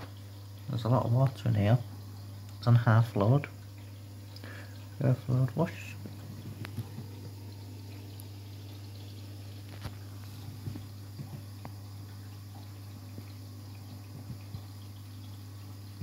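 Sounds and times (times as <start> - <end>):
low motor hum: 0.0 - 16.0
water sloshing in washing machine: 0.0 - 16.0.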